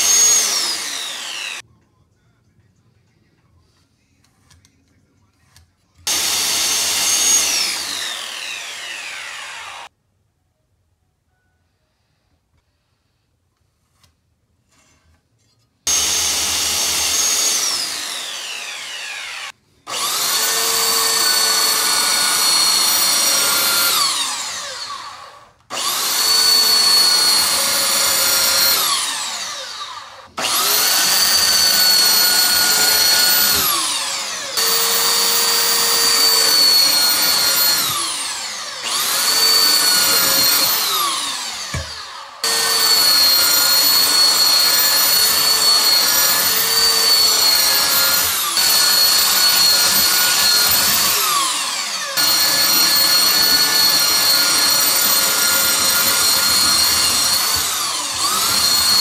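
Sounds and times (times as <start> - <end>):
power tool motor whining: 0.0 - 1.6, 6.1 - 9.9, 15.9 - 59.0.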